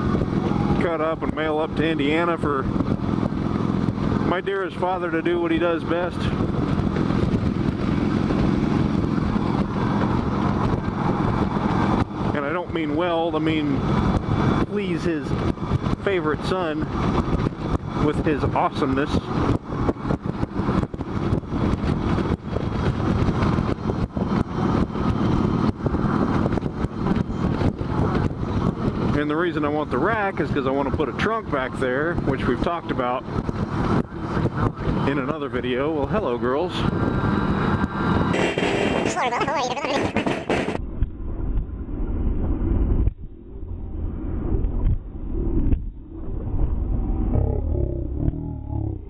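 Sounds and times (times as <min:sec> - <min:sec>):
vehicle road noise: 0:00.0 - 0:49.0.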